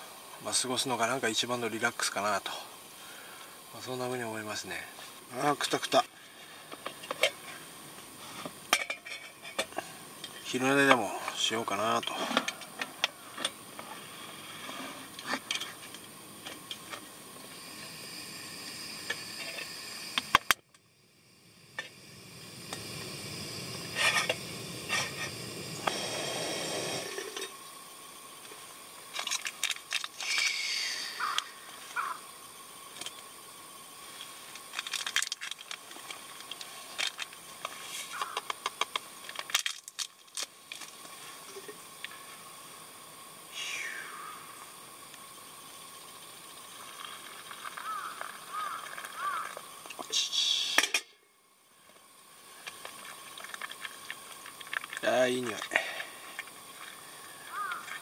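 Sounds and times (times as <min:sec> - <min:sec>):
gas stove hissing: 0:00.0 - 0:58.0.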